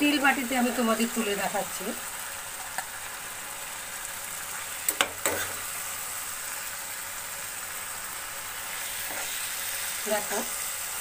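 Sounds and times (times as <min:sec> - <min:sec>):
curry sizzling in a pan: 0:00.0 - 0:11.0.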